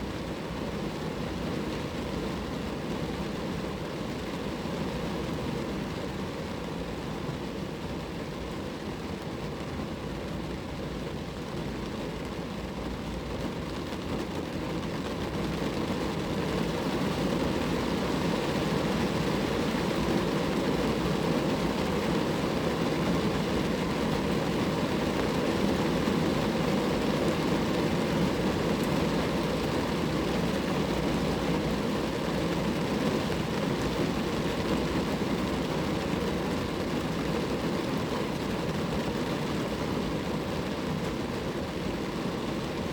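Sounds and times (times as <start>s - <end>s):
rain falling on a car: 0.0s - 42.9s.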